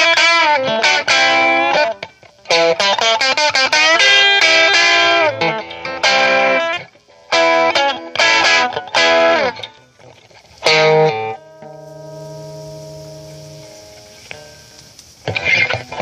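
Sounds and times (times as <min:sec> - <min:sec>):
electric guitar chords strummed: 0:00.0 - 0:09.9, 0:10.6 - 0:16.0.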